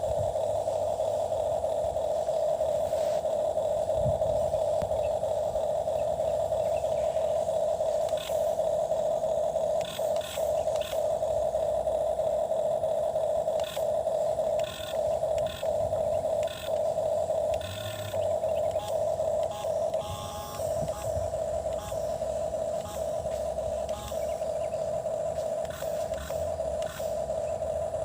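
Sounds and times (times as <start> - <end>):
toy electric motor whining: 0.0 - 28.0.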